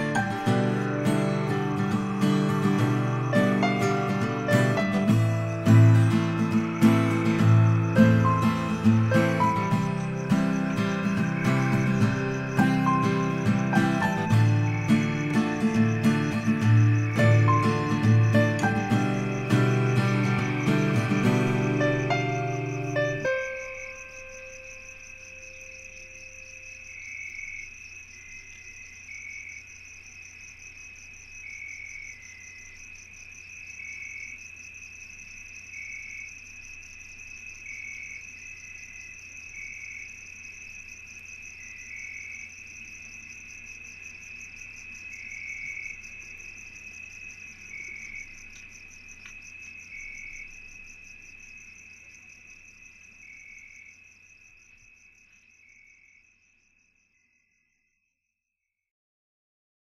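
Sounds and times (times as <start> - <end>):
crickets trilling: 0.0 - 58.0
short cricket chirp: 0.0 - 58.3.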